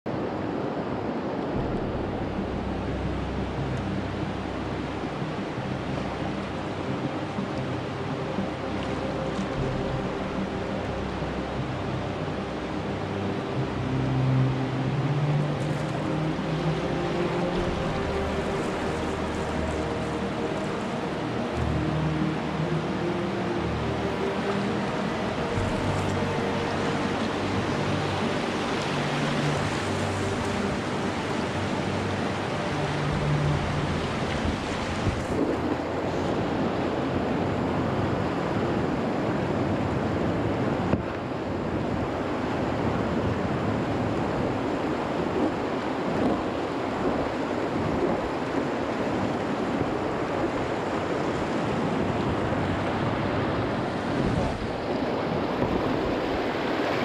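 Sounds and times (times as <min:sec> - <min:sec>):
wind buffeting microphone: 0:00.1 - 0:13.8, 0:14.5 - 0:57.0
river water rushing: 0:00.1 - 0:57.0.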